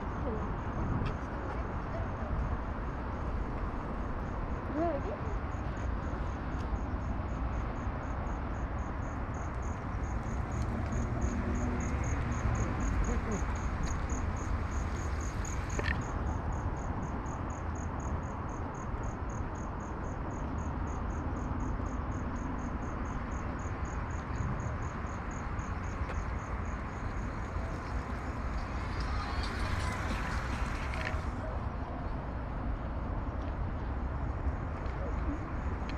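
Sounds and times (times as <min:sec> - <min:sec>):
cricket chirping: 0:00.0 - 0:32.3.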